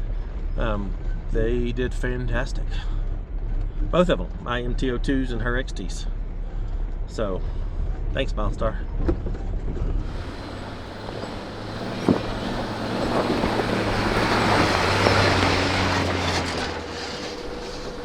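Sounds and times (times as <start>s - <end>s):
car engine hum: 0.0s - 18.0s
tyre and road noise: 0.0s - 18.0s.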